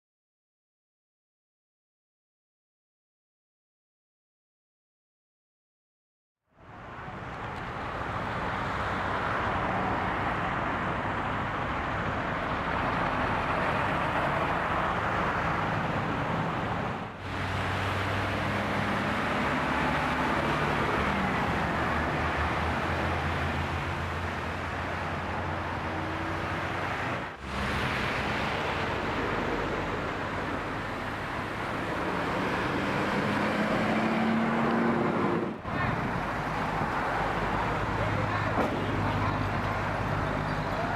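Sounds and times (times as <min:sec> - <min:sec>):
vehicles passing on road: 0:06.5 - 0:40.9.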